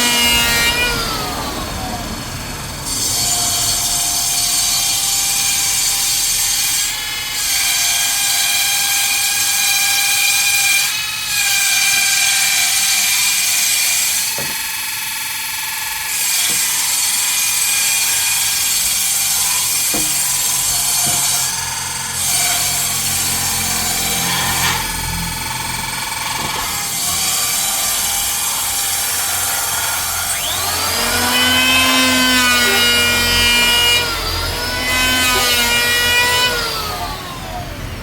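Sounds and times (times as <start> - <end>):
power tool motor whine: 0.0 - 38.0.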